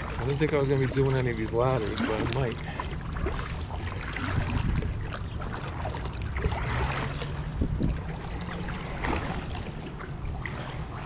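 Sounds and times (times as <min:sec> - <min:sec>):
paddle splashing in water: 0:00.0 - 0:11.0
wind rumble on microphone: 0:00.0 - 0:11.0.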